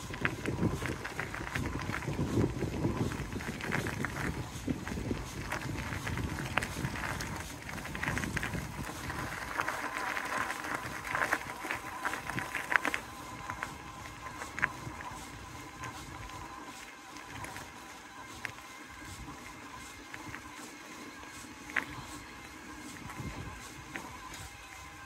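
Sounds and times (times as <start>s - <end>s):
wind rumble on microphone: 0.0s - 20.6s, 21.7s - 25.0s
footsteps on gravel: 0.0s - 25.0s.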